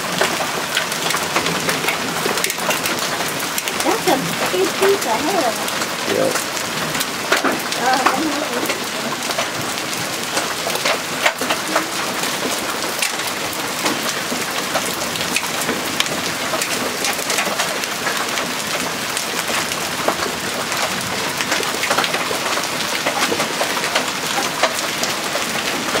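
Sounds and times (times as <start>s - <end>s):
hailstones clicking on surfaces: 0.0s - 26.0s
heavy rain hiss: 0.0s - 26.0s.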